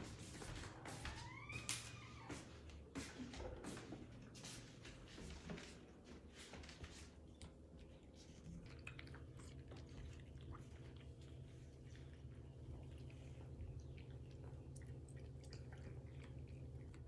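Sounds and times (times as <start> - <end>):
low steady hum: 0.0 - 17.0
cats chewing and crunching: 2.2 - 17.0.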